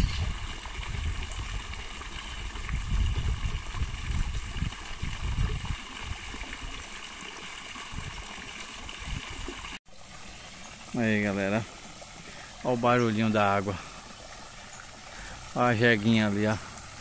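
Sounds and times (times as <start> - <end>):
water splashing into a pond: 0.0 - 17.0.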